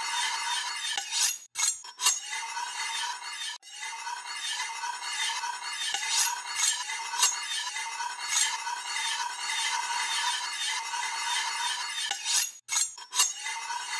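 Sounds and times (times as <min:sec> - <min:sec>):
knife blade ringing and scraping: 0:00.0 - 0:13.9.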